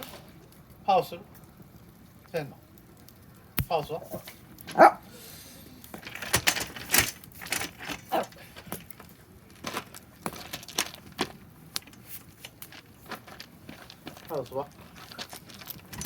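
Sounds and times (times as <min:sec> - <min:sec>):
fire pops and snaps: 0:00.0 - 0:04.9, 0:05.7 - 0:16.0
wood fire crackling: 0:00.0 - 0:16.0.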